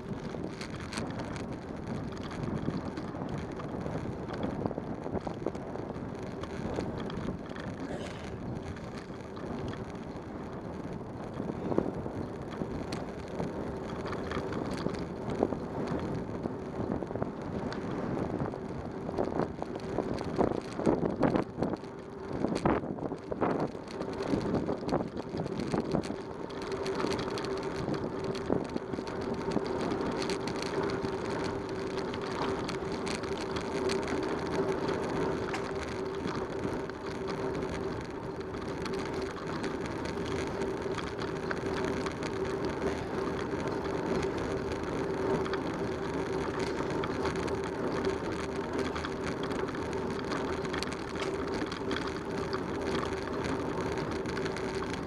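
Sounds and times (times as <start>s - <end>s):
bicycle tyre road noise: 0.0s - 55.0s
crackly rattle: 0.0s - 55.0s.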